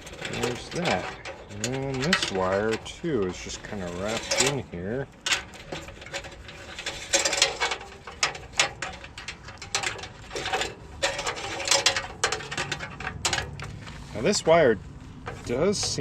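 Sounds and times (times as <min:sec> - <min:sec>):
wires clicking and rattling: 0:00.0 - 0:16.0.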